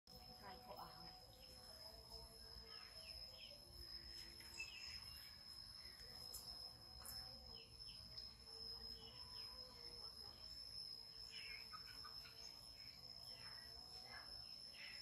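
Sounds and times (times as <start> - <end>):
high-pitched whine: 0.1 - 15.0.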